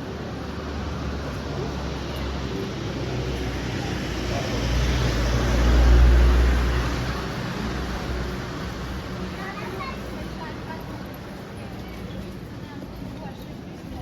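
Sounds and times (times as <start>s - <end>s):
tyre hiss on wet street: 0.1s - 11.6s.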